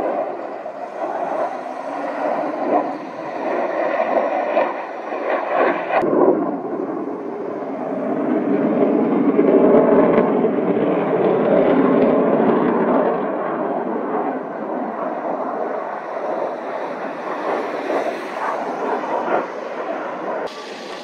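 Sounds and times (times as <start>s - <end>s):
jet engine passing overhead: 0.0s - 21.0s.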